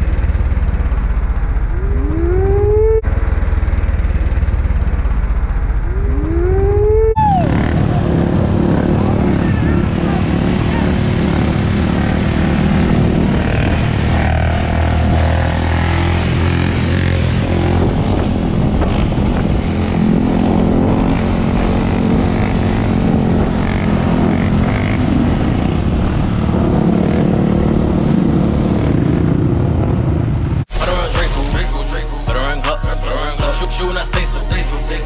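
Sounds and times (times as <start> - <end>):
off-road engines revving: 0.0 - 35.0.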